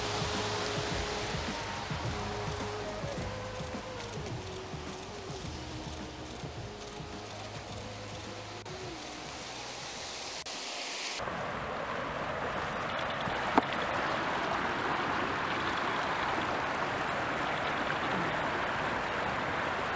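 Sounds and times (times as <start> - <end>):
creek rushing over rapids: 0.0 - 19.9.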